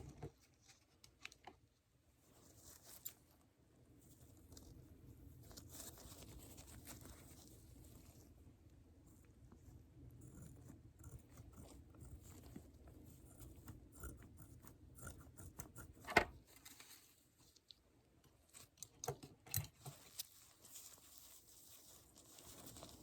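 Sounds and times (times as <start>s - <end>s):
soft handling clicks and crackles: 0.0s - 23.0s.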